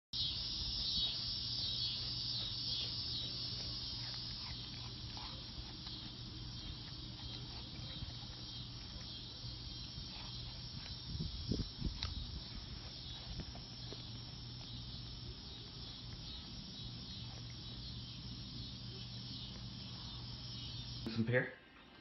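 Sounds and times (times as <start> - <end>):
animal chewing crunching: 0.2 - 21.1
insects chorus: 0.2 - 21.4.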